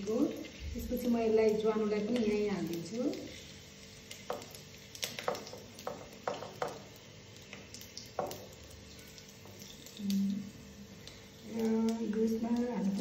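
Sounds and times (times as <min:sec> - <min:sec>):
seeds sizzling in hot oil: 0:00.0 - 0:13.0
sharp crackles and pops: 0:00.0 - 0:13.0.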